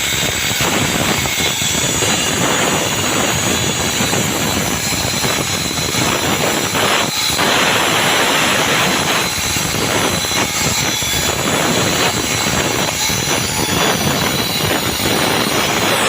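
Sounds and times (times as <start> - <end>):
concrete saw grinding: 0.0 - 16.0.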